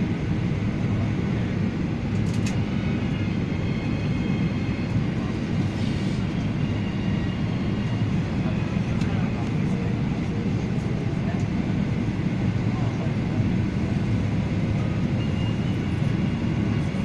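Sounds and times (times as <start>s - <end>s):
airliner engines rumbling: 0.0s - 17.0s.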